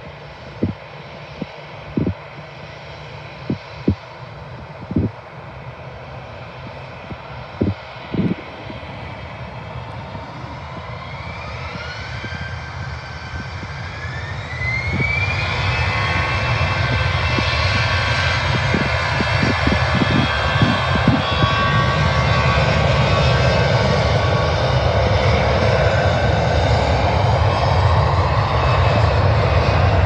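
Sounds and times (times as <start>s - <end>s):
jet engines spooling up: 0.0s - 30.0s.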